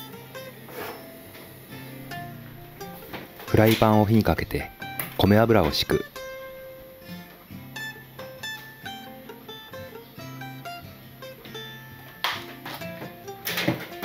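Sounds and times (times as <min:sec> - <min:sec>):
plucked acoustic guitar music: 0:00.0 - 0:14.0.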